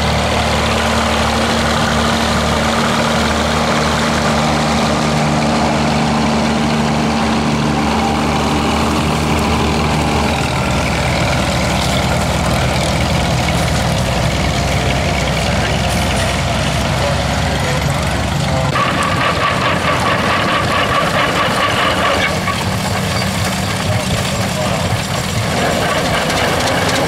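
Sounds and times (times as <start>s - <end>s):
tractor engines running under load: 0.0s - 27.0s.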